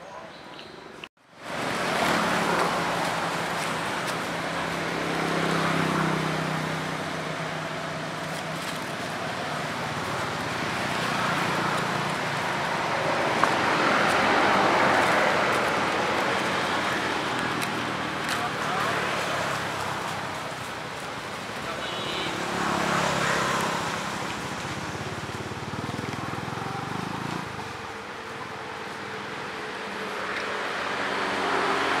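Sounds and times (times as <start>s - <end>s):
passing road traffic: 0.0s - 32.0s.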